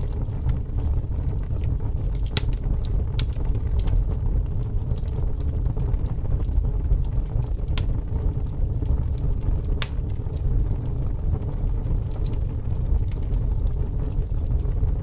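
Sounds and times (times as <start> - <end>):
fire popping: 0.0 - 15.0
fire rumbling and crackling: 0.0 - 15.0.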